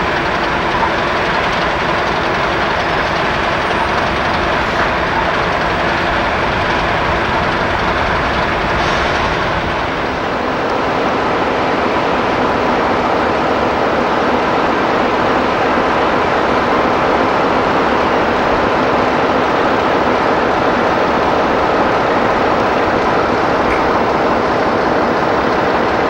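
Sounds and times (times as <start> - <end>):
train rushing past on rails: 0.0 - 26.0.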